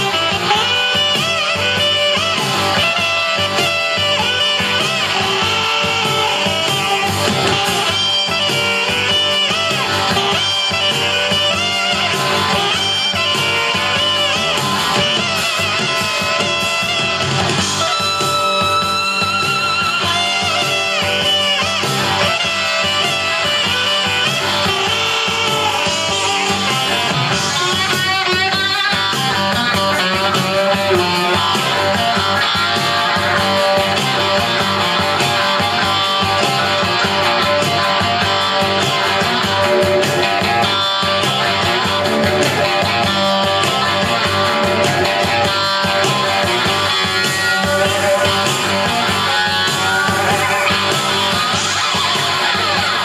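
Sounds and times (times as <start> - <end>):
instrumental rock music: 0.0 - 53.0.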